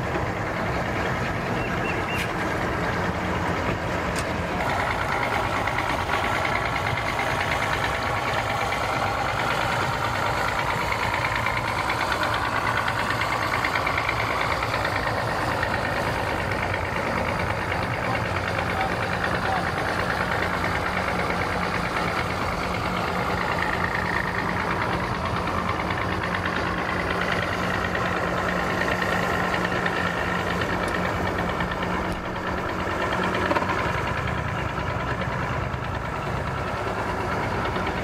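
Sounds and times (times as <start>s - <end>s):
outboard motor drone: 0.0s - 38.0s.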